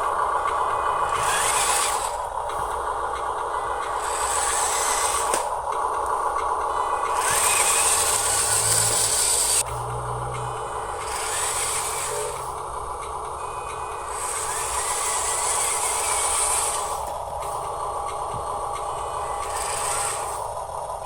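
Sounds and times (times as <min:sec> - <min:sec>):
small electric motor whine: 0:00.0 - 0:21.0
steady grinding noise: 0:00.0 - 0:21.0.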